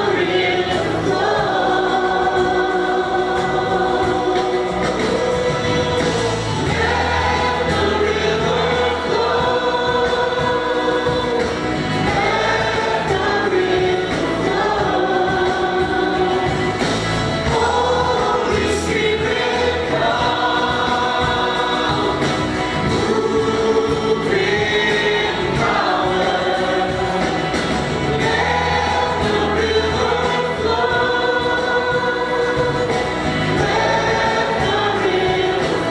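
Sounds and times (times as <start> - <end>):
accompanying music: 0.0 - 35.9
group singing gospel song: 0.0 - 35.9.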